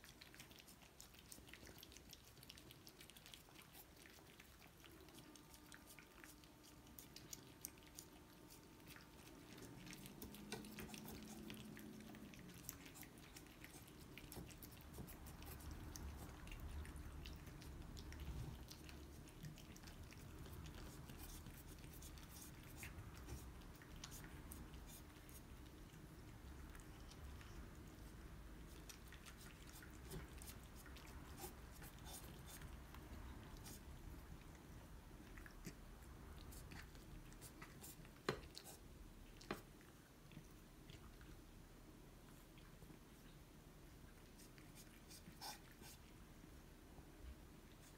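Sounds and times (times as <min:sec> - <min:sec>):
cats lapping from bowls: 0:00.0 - 0:47.9.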